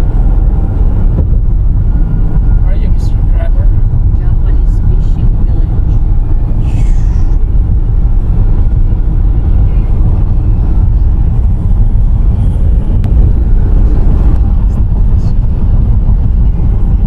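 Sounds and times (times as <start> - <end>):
car rumbling in motion: 0.0 - 17.0.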